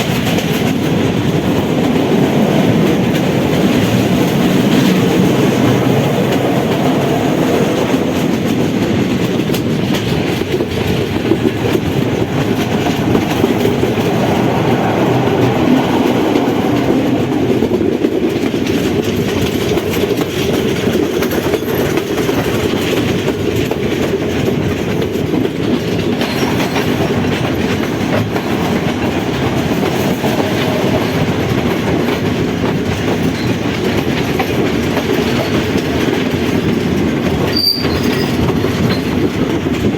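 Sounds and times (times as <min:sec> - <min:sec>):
train carriages rumbling: 0:00.0 - 0:39.9
wheels clacking over rail joints: 0:00.0 - 0:39.9.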